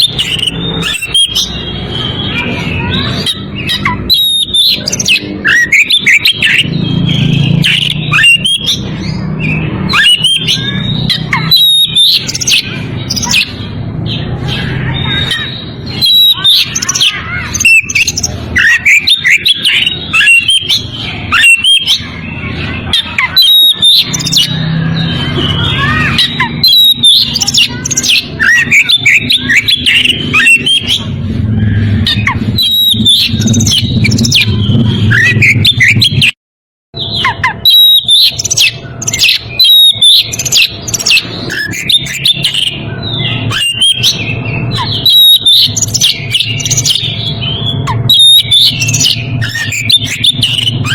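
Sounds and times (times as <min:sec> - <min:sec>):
bird singing whistles and chirps: 0:00.0 - 0:31.2, 0:31.8 - 0:36.4, 0:37.0 - 0:50.9.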